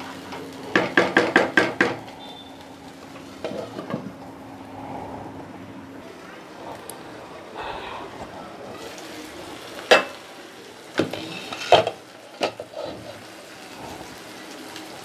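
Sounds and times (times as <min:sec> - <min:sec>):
gravy simmering: 0:00.0 - 0:15.0.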